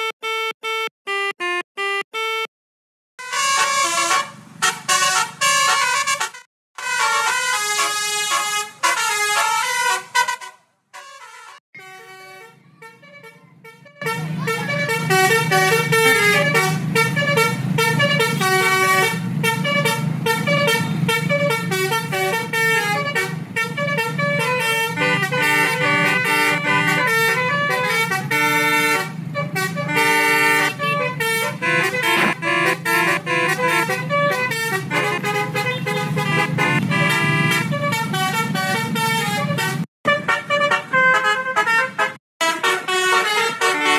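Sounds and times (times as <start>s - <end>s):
multi-tone melody horn: 0.0s - 2.5s, 3.2s - 43.9s.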